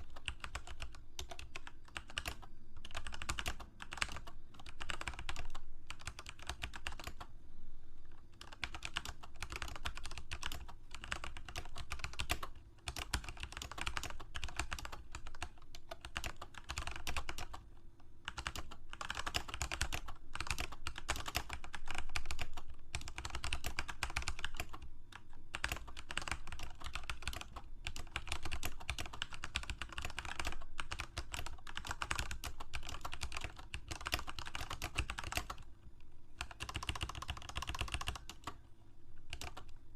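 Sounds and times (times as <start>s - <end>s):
typing on computer keyboard: 0.0s - 7.3s, 8.3s - 17.6s, 18.2s - 35.7s, 36.4s - 38.6s, 39.3s - 39.8s.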